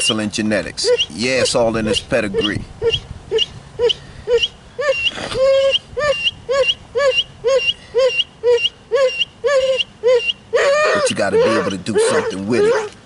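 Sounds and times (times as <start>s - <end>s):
dog whining: 0.8s - 13.0s.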